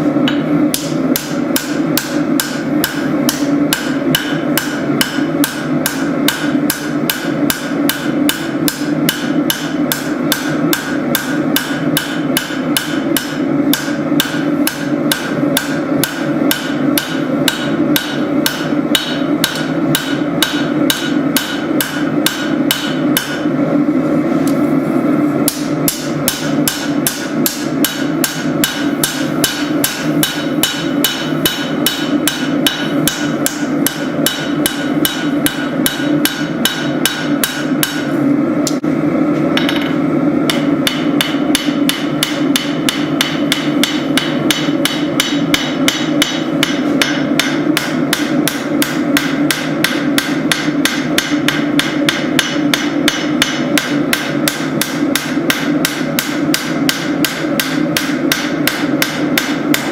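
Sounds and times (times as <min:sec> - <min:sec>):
steady low hum: 0:00.0 - 0:59.9
hammer striking steel on anvil: 0:00.2 - 0:23.5, 0:25.4 - 0:38.1, 0:39.6 - 0:59.9.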